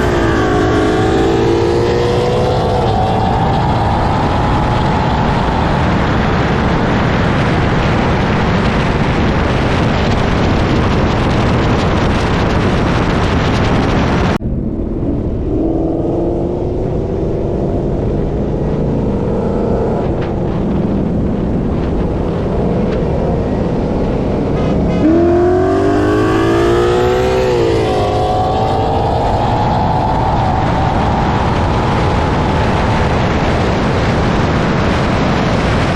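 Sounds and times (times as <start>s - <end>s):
car engine at full throttle: 0.0s - 35.9s
heavy wind noise: 0.0s - 35.9s.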